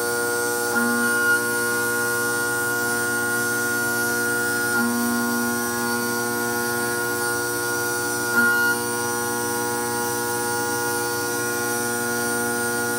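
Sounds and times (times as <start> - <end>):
milling machine whining: 0.0 - 12.9.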